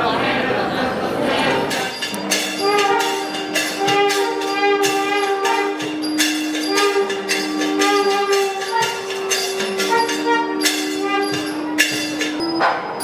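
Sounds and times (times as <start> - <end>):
cymbal beats: 1.7 - 13.0
drum strokes: 1.7 - 13.0
steady drone: 1.8 - 13.0
double reed horn melody: 1.9 - 13.0.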